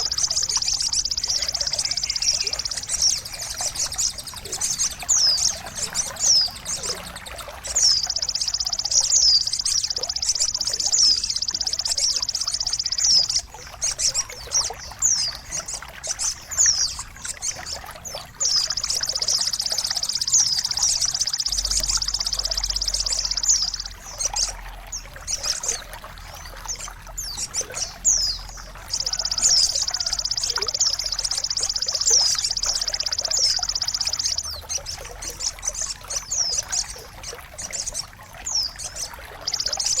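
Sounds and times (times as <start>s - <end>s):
high buzzing bird trill: 0.0s - 40.0s.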